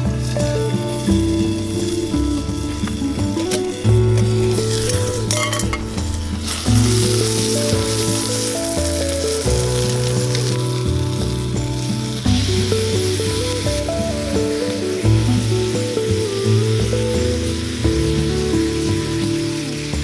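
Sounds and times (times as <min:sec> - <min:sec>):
background music: 0:00.0 - 0:20.0
food sizzling in a frying pan: 0:00.0 - 0:20.0.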